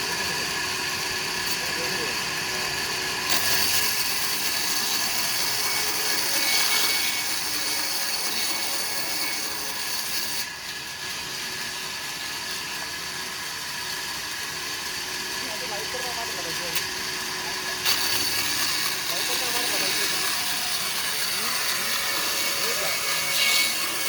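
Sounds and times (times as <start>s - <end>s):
saw cutting through timber: 0.0s - 24.0s.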